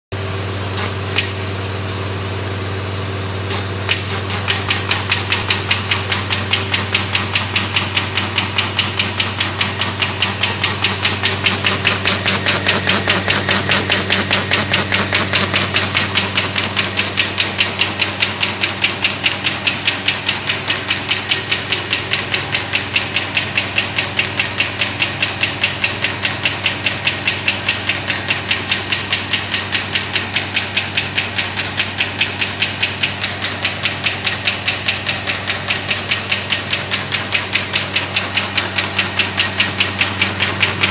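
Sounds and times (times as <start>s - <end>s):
steady motor hum: 0.1s - 40.9s
folding machine clattering: 3.5s - 40.9s.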